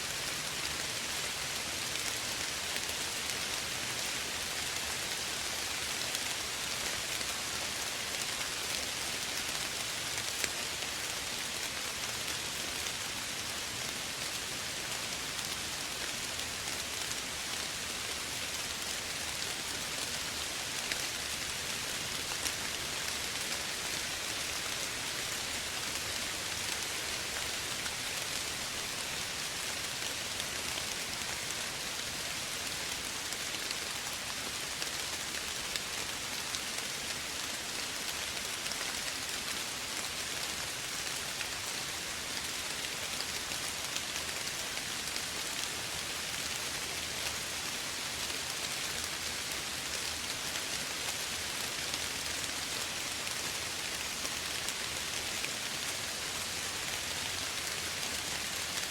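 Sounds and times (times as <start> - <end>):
soft rain falling: 0.0 - 58.9.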